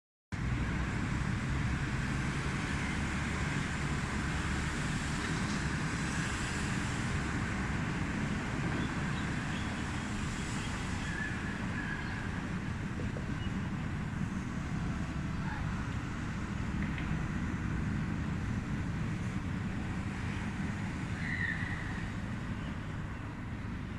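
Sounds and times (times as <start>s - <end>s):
helicopter rotor thrum: 3.8s - 23.8s.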